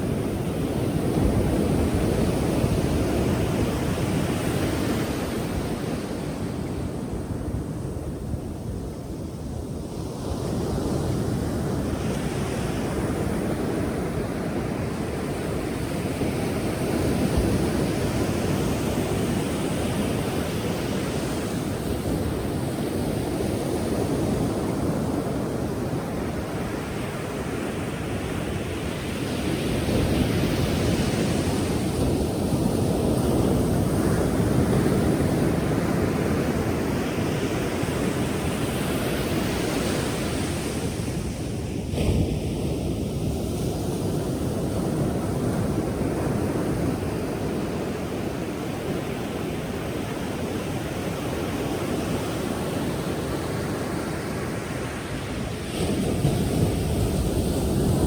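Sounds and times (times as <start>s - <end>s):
ocean waves breaking: 9.4s - 58.0s.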